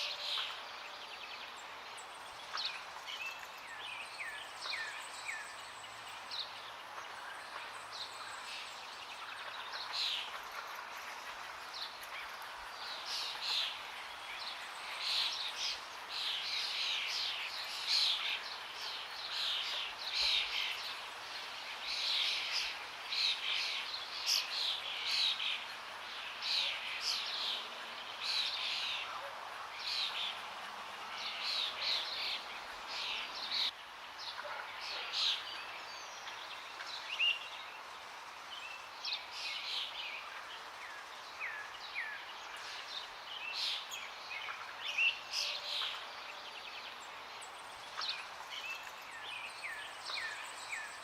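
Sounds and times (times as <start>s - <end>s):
songbirds chirping and trilling: 0.0s - 51.0s.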